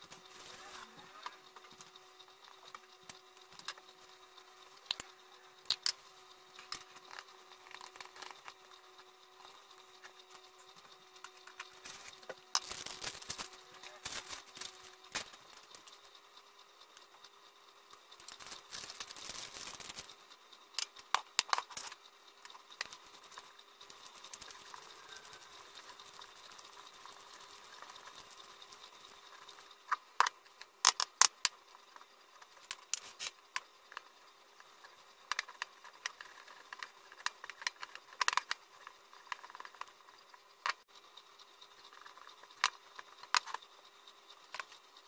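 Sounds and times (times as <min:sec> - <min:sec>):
dough worked by hand: 0:00.0 - 0:45.0
faint steady hum: 0:00.0 - 0:45.0.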